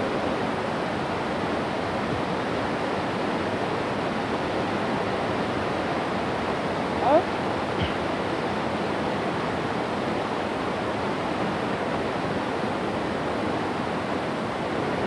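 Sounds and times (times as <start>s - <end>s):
river rushing over rapids: 0.0s - 15.0s.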